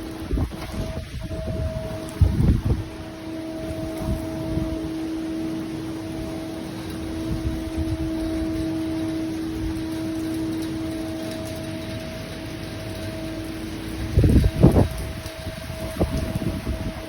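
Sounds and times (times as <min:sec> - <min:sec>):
constant low hum: 0:00.0 - 0:17.0
rain hissing: 0:00.0 - 0:17.0.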